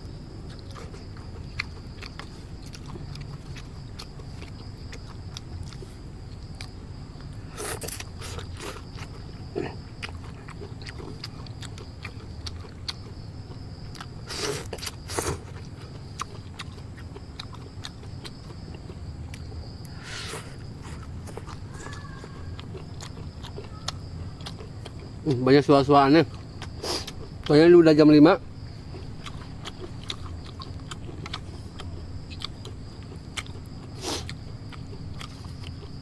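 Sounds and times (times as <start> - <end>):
high insect drone: 0.0 - 36.0
low background rumble: 0.0 - 36.0.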